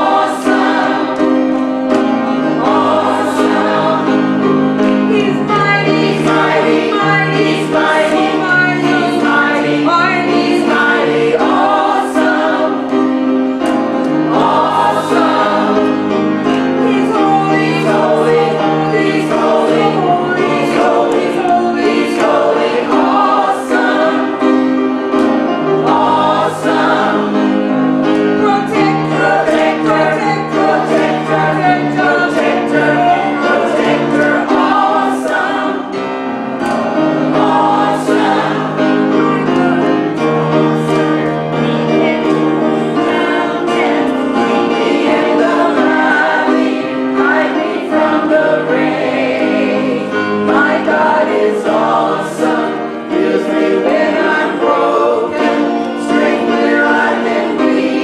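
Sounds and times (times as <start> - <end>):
choir singing a hymn: 0.0 - 58.0
grand piano accompaniment: 0.0 - 58.0.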